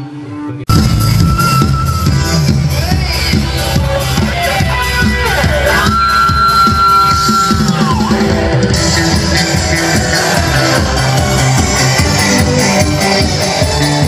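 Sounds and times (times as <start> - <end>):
amplified street band music: 0.0 - 14.0
sliding lead melody: 0.0 - 14.0
steady drum beat: 0.7 - 14.0.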